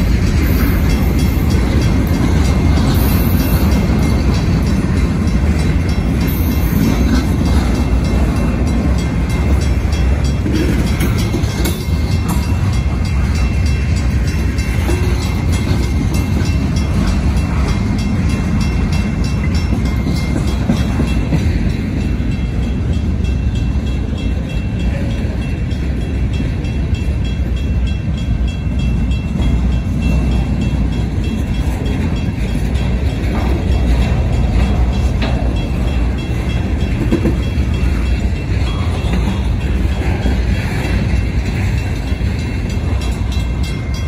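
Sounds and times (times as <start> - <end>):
crossing bells ringing: 0.0 - 44.0
freight train rolling on rails: 0.0 - 44.0.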